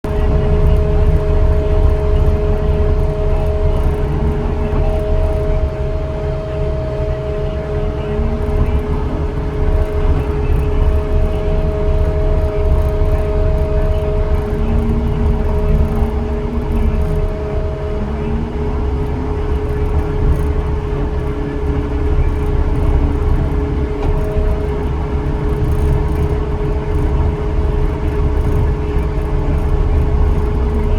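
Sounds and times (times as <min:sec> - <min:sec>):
high whine: 0:00.0 - 0:30.9
skid steer rumble: 0:00.0 - 0:30.9.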